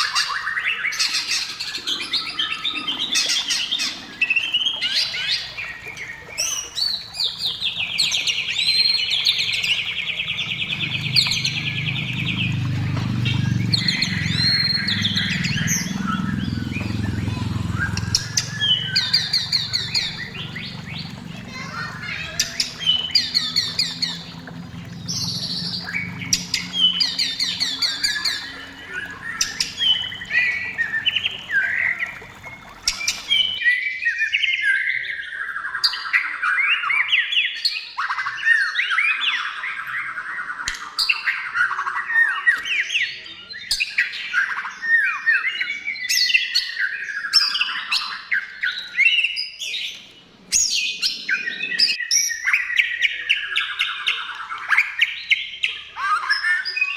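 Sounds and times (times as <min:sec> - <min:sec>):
songbird whistling and trilling: 0:00.0 - 0:56.9.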